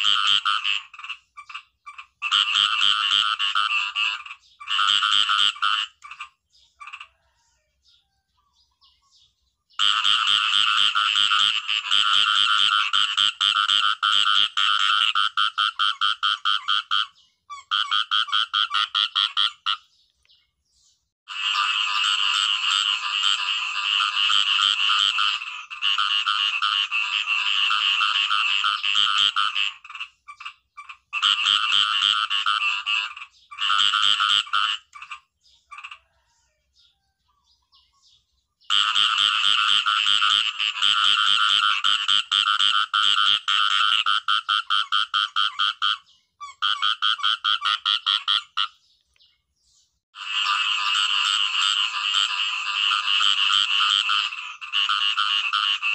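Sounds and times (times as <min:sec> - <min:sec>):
frogs croaking rapidly: 0:00.0 - 0:07.4, 0:09.8 - 0:20.0, 0:21.3 - 0:36.4, 0:38.7 - 0:48.9, 0:50.2 - 0:55.9.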